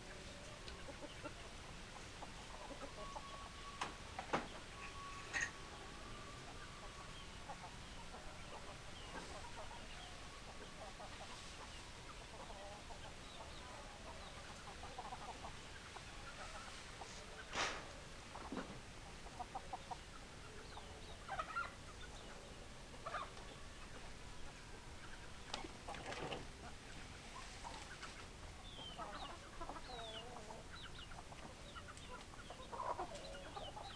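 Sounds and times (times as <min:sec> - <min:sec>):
chickens clucking: 0:00.0 - 0:33.9
faint steady hiss: 0:00.0 - 0:33.9.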